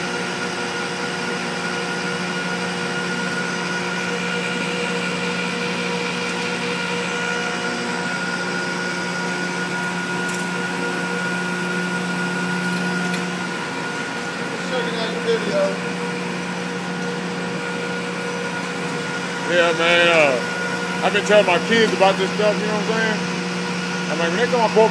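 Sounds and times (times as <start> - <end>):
grain loading machine humming: 0.0 - 24.9.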